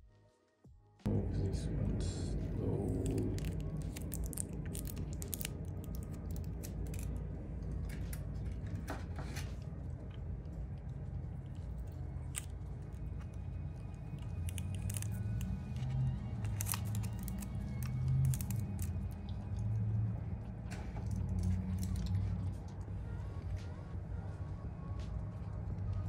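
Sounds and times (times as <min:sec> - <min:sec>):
low steady hum: 0:01.0 - 0:26.0.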